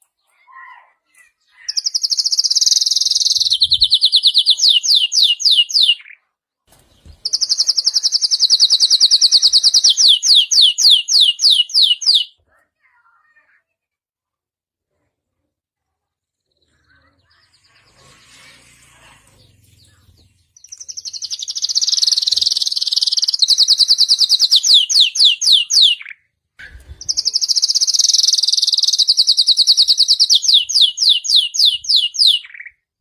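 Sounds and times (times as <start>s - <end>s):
canary singing trills: 1.2s - 6.3s, 6.9s - 12.4s, 16.3s - 32.9s.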